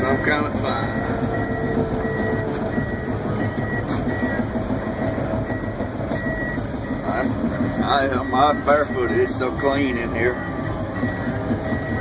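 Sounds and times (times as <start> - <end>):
backup alarm beeping: 0.0 - 12.0
bulldozer diesel engine running: 0.0 - 12.0.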